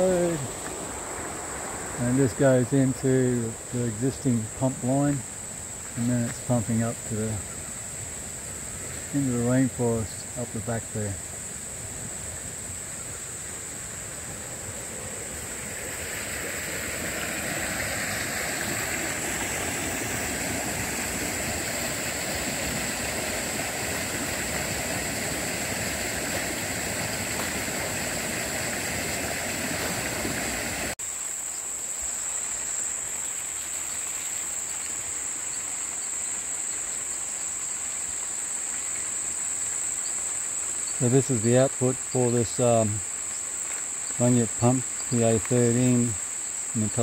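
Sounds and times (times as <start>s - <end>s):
creek water rushing over rapids: 0.0s - 47.0s
insects droning: 0.0s - 47.0s.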